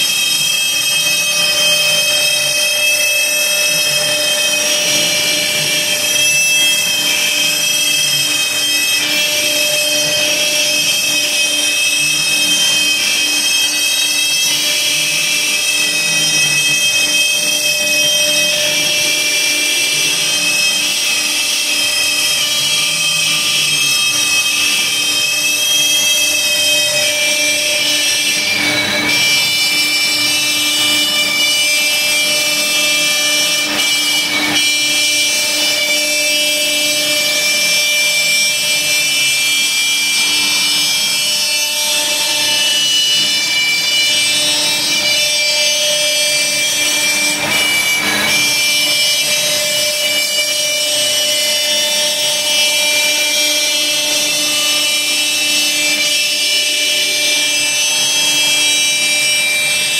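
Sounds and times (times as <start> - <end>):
router spindle high whine: 0.0 - 59.9.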